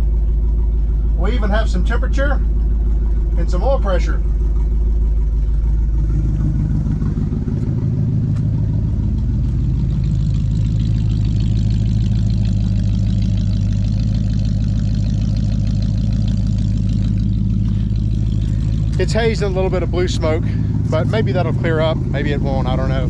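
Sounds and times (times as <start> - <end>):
engine idling with exhaust leak: 0.0 - 23.0.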